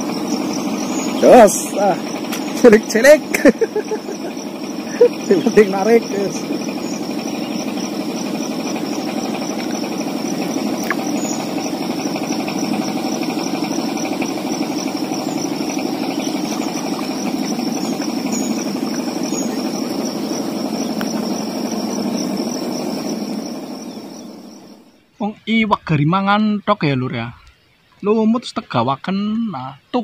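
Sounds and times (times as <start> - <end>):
small engine running: 0.0 - 25.1.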